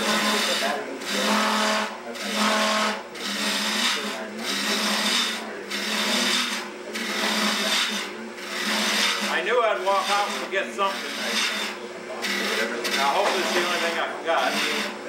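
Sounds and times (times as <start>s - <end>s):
gouge scraping spinning wood: 0.0s - 15.0s
wood lathe humming: 0.0s - 15.0s.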